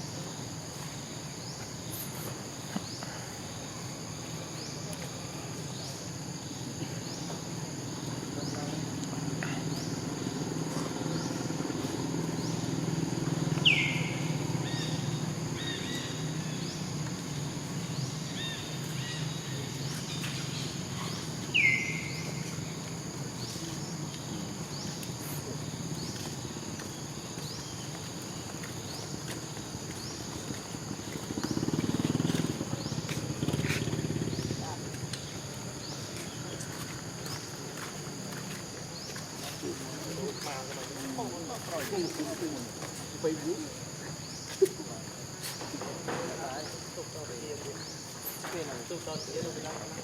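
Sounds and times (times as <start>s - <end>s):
insects trilling: 0.0s - 50.0s.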